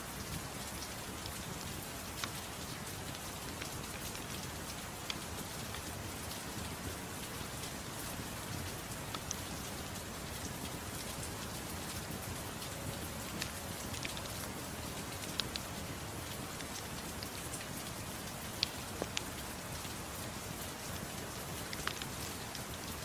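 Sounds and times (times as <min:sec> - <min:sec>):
steady rain hissing: 0:00.0 - 0:23.0.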